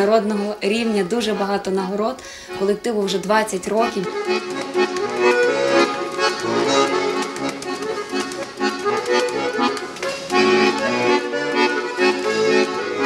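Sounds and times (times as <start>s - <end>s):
accordion folk dance tune: 0.0s - 13.0s.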